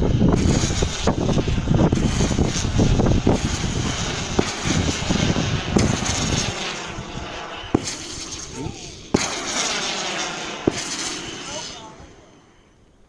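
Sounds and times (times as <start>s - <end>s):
fireworks bangs: 0.0s - 12.6s
fireworks barrage with crackle: 0.0s - 12.7s.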